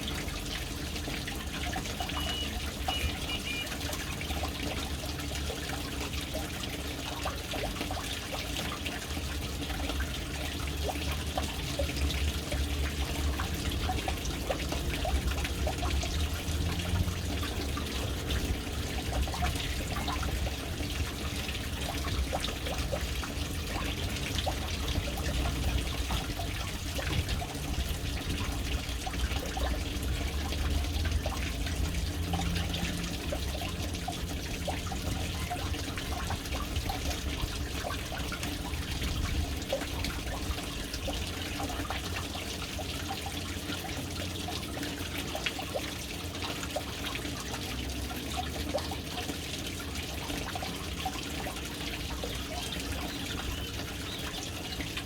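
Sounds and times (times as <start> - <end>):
water splashing into tank: 0.0 - 55.0.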